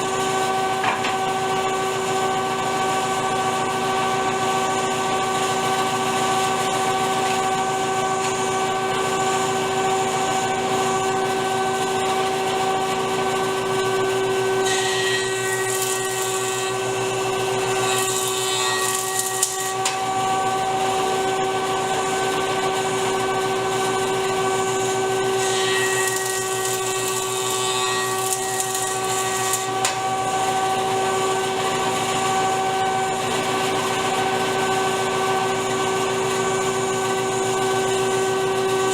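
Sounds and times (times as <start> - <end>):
power tool motor hum: 0.0 - 38.9
wood cutting noise: 0.0 - 38.9.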